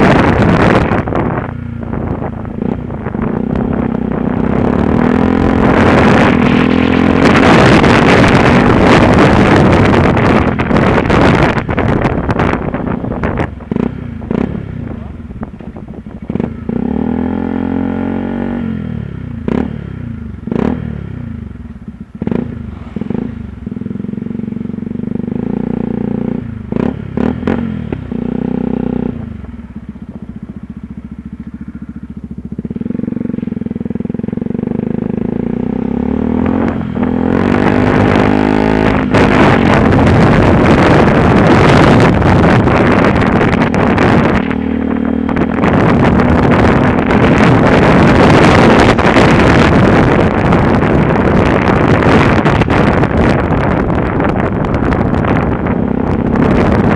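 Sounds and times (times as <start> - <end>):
motorcycle engine revving: 0.0 - 56.9
wind noise on microphone: 0.0 - 56.9.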